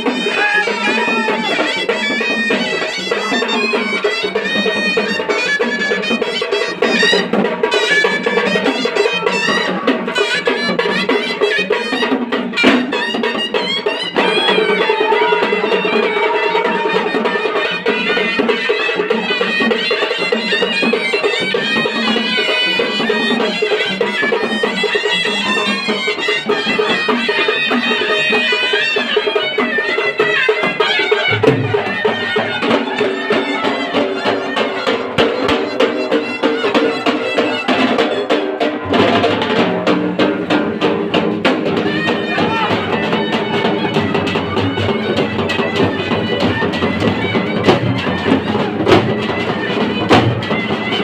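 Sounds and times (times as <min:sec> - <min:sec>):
fast drumming: 0:00.0 - 0:51.0
wind instrument melody: 0:00.0 - 0:51.0.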